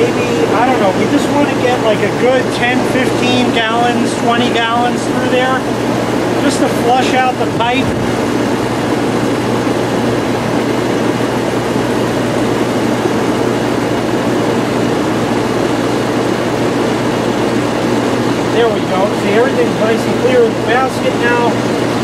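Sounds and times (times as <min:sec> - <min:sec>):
pump motor hum: 0:00.0 - 0:22.0.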